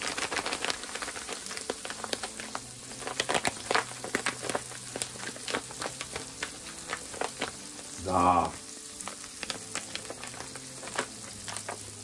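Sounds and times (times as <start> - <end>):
food frying in oil: 0.0 - 12.0
paper pouch crinkling and rattling: 0.0 - 12.0.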